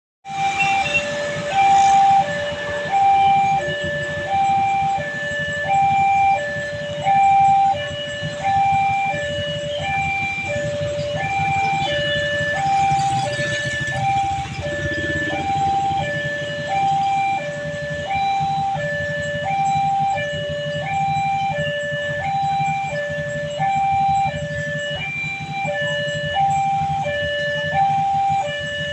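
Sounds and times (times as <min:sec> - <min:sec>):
two-tone level crossing alarm: 0:00.2 - 0:28.9.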